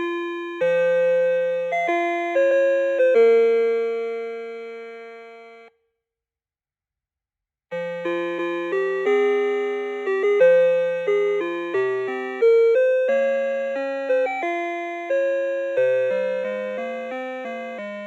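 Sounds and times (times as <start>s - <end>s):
electronic clock melody: 0.5s - 5.7s, 8.0s - 18.0s.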